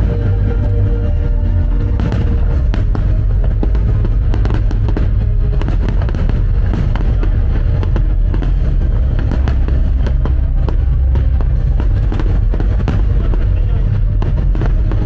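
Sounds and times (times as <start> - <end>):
fireworks bursting and crackling: 0.0 - 15.0
loud music with heavy bass: 0.0 - 15.0.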